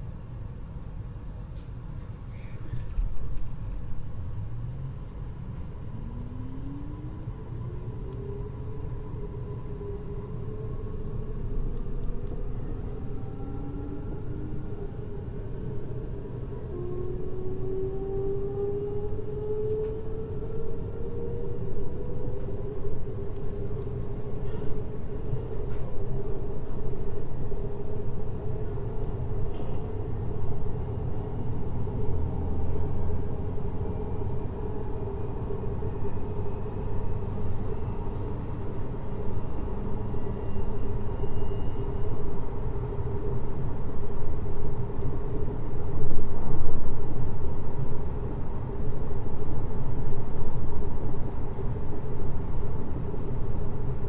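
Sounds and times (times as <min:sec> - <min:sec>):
faint rising whine: 0:02.3 - 0:54.0.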